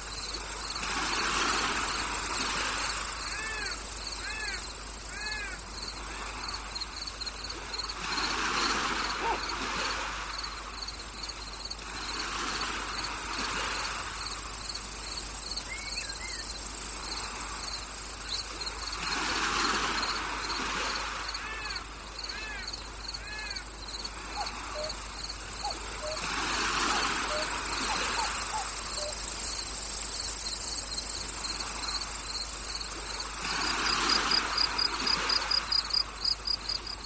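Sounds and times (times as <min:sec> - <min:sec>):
rising-and-falling insect calls: 0:00.0 - 0:09.5, 0:10.4 - 0:37.0
crickets trilling: 0:00.0 - 0:37.0.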